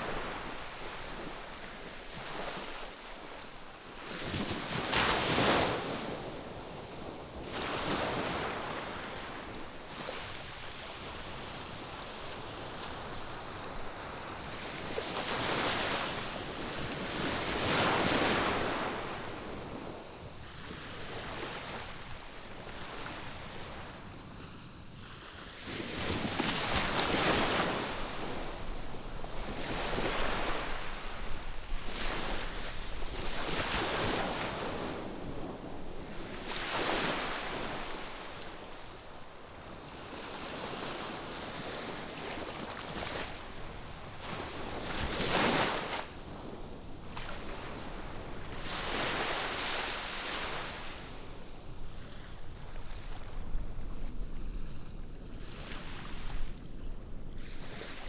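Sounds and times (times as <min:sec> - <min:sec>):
waves breaking on shore: 0:00.0 - 0:24.0, 0:25.6 - 0:53.8.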